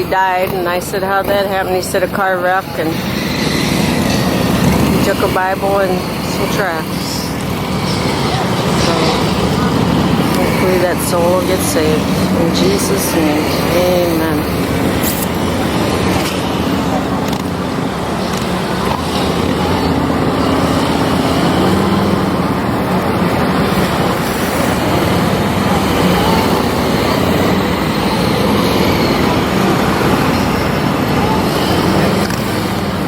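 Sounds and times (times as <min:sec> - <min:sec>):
vehicle engines running: 0:00.0 - 0:33.0.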